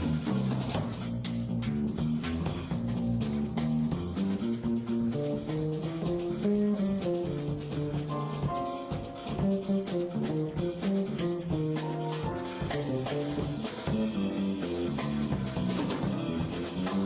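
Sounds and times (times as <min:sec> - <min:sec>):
double bass: 0:00.0 - 0:17.0
drum kit with cymbals: 0:00.0 - 0:17.0
jazz guitar melody: 0:00.0 - 0:17.0.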